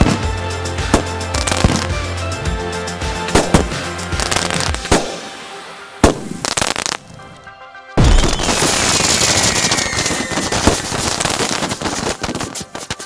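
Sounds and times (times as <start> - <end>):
fireworks banging and crackling: 0.0 - 2.2, 3.2 - 7.4, 8.0 - 13.0
background music: 0.0 - 13.0.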